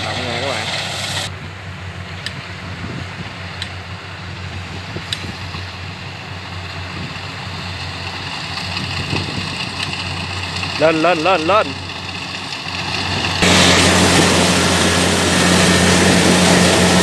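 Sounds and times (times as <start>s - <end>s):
combine harvester diesel engine drone: 0.0s - 17.0s.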